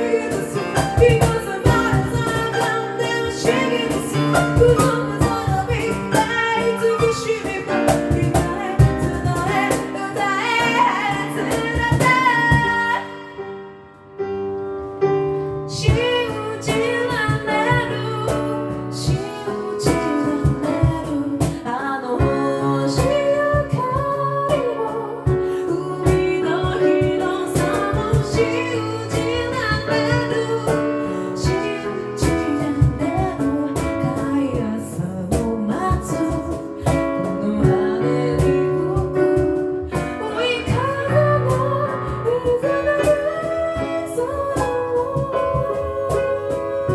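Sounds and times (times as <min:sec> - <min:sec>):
vocal percussion beat: 0:00.0 - 0:13.1, 0:15.9 - 0:46.9
a cappella group singing: 0:00.0 - 0:13.2, 0:15.9 - 0:46.9
female lead vocal: 0:00.0 - 0:13.9, 0:15.7 - 0:46.9.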